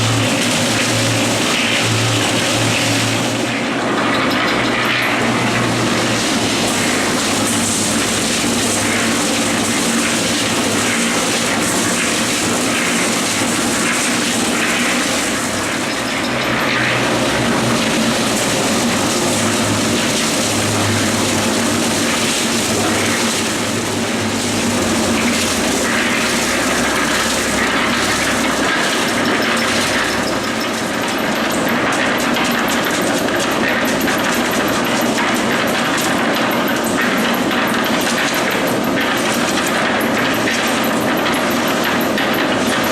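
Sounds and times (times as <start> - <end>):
concrete mixer drum turning: 0.0 - 42.9.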